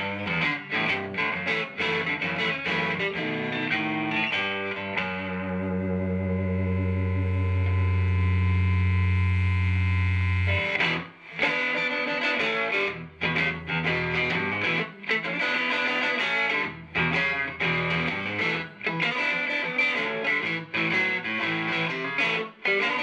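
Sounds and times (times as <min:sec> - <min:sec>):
overdriven electric guitar: 0:00.0 - 0:23.0.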